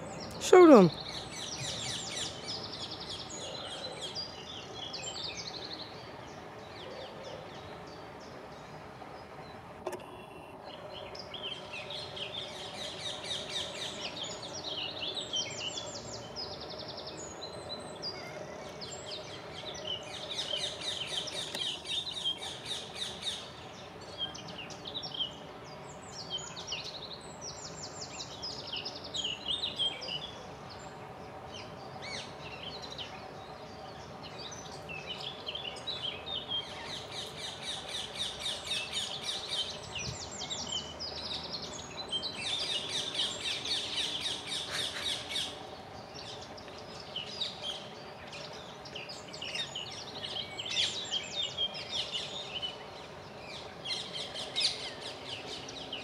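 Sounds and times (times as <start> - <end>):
low background hum: 0.0 - 56.0
songbirds chirping: 0.0 - 56.0.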